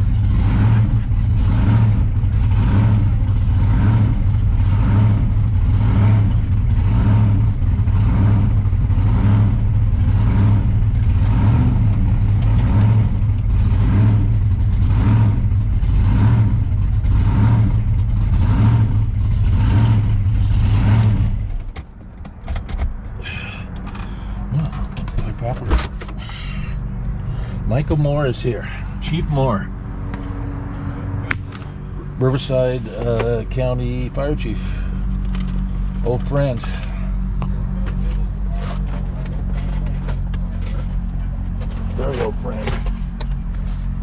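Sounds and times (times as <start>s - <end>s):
car engine idling loudly with lope: 0.0s - 44.0s.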